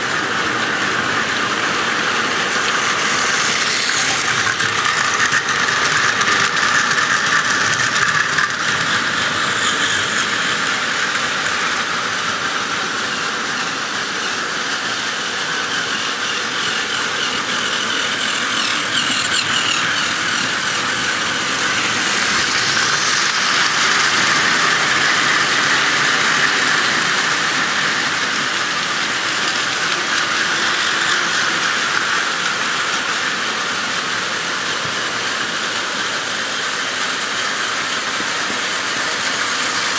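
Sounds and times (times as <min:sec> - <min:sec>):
toy trains whirring on plastic track: 0:00.0 - 0:39.9.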